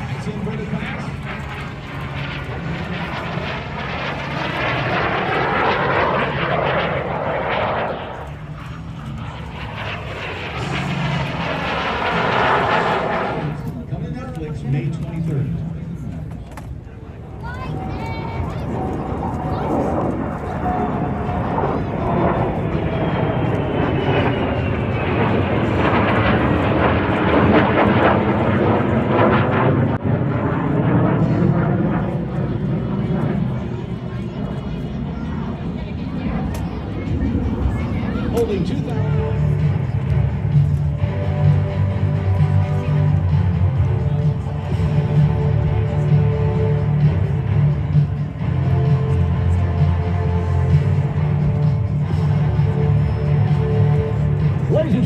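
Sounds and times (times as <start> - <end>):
jet aircraft roar: 0.0 - 55.0.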